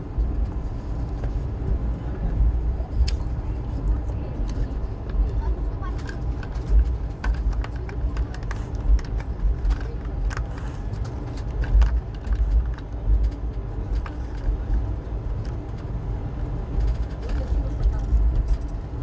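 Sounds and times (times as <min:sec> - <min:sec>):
train clicks and rattles: 0:00.0 - 0:19.0
train rumble: 0:00.0 - 0:19.0.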